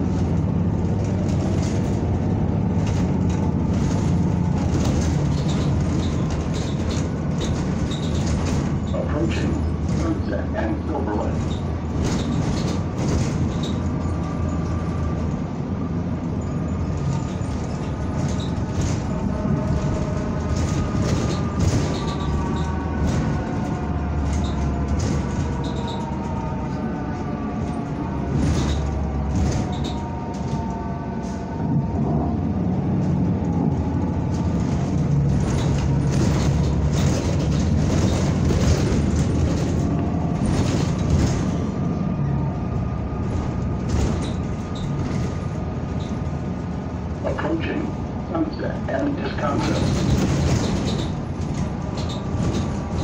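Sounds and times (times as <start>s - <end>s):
bus body rattles and knocks: 0.0s - 53.0s
bus drivetrain whine: 0.0s - 53.0s
low road rumble: 0.0s - 53.0s.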